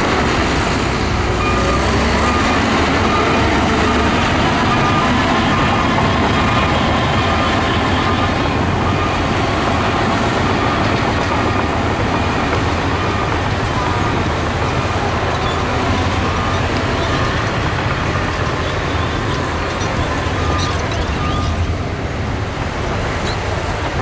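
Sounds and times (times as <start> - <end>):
heavy machinery diesel engines running: 0.0 - 24.0.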